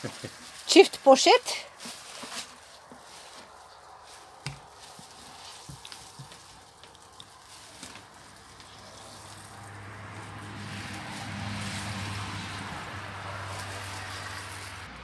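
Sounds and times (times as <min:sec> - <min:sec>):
grapes squelching underfoot: 0:00.0 - 0:14.9.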